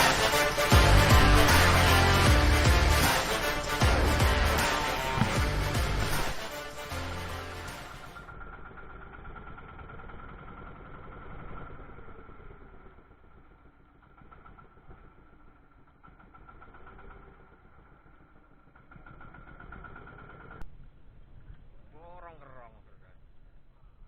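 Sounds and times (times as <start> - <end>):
boat engine drone: 0.0 - 20.6.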